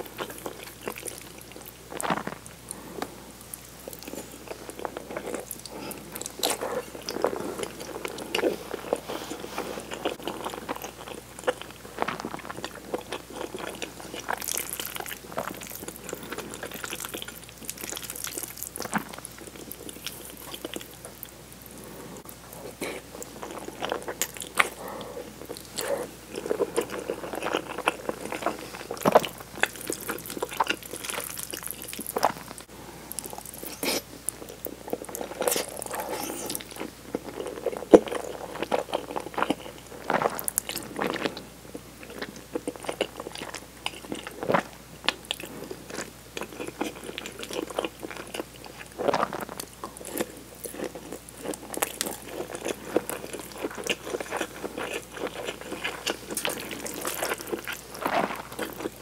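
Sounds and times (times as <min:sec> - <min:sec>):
wet chewing of pasta: 0:00.0 - 0:59.0.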